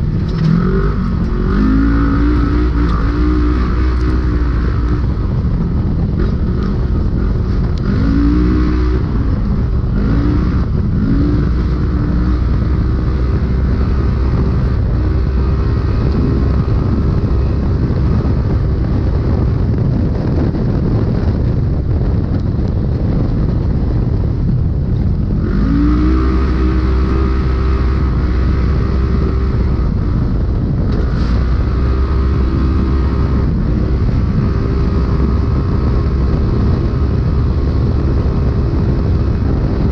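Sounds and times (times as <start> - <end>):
drivetrain and terrain rumble: 0.0 - 39.9
engine accelerating: 0.0 - 39.9.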